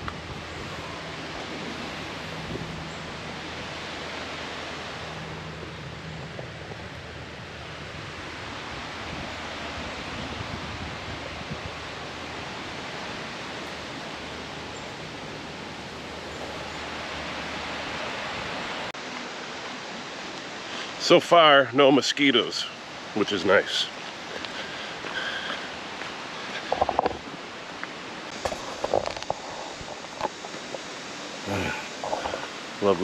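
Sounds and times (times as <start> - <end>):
rushing water hiss: 0.0 - 33.0.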